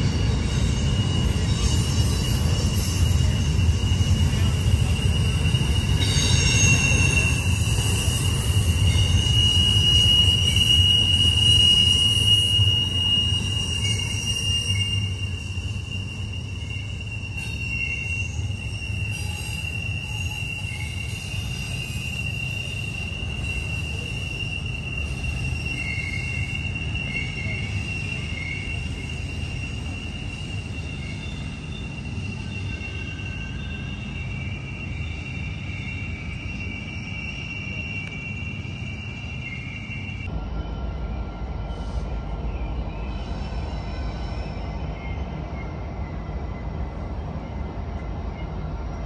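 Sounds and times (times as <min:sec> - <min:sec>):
low rumble of train cars: 0:00.0 - 0:49.0
wheel flanges squealing: 0:00.0 - 0:49.0.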